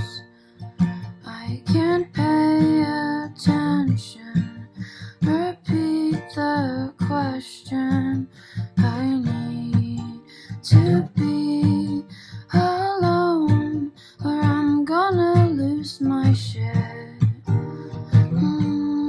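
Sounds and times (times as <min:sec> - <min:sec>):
strummed acoustic guitar: 0:00.0 - 0:19.0
person singing: 0:01.2 - 0:19.0.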